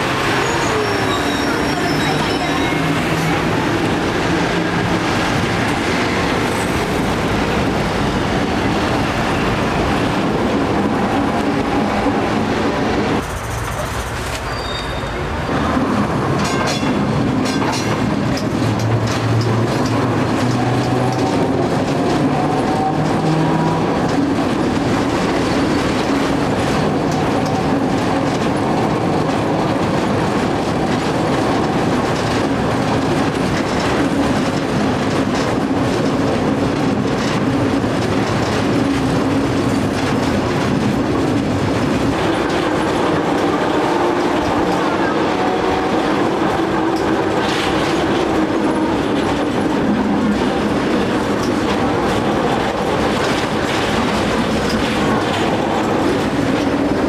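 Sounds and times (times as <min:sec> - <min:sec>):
tram wheels rolling on rails: 0:00.0 - 0:57.0.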